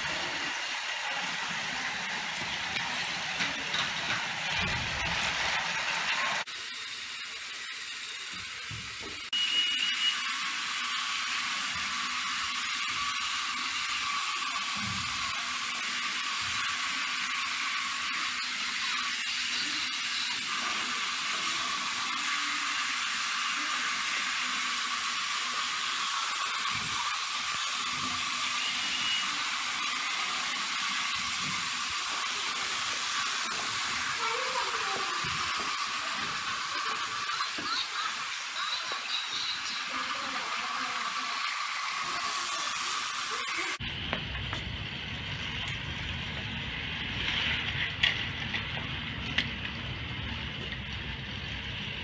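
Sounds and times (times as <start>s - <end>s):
toy train motor whirring: 0.0s - 43.8s.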